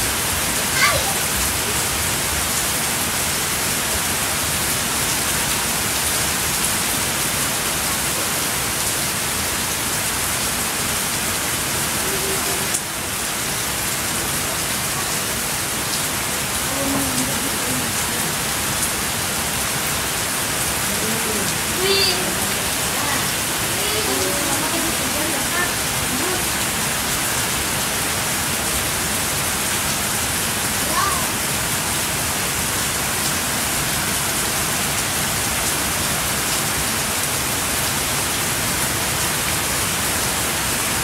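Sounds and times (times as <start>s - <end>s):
heavy rain on foliage and patio: 0.0s - 41.0s.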